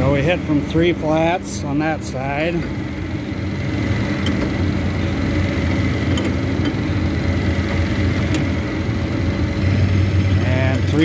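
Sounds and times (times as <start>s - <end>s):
roller mill humming: 0.0s - 11.0s.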